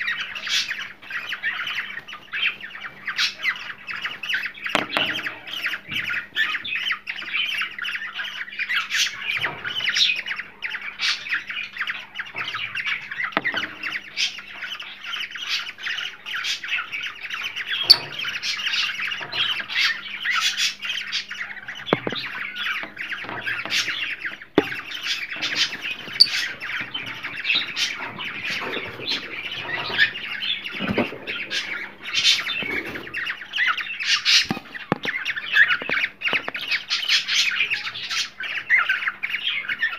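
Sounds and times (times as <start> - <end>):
cockatiels chattering and squawking: 0.0 - 39.9.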